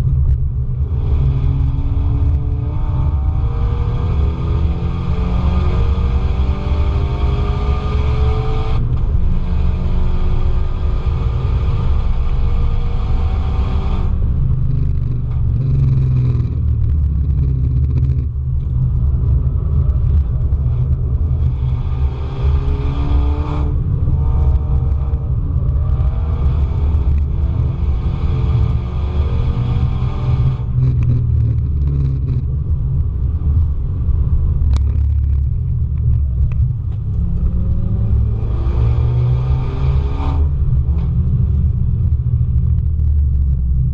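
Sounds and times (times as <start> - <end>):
car engine revving through gears: 0.2 - 18.8, 19.4 - 32.8, 36.8 - 41.7.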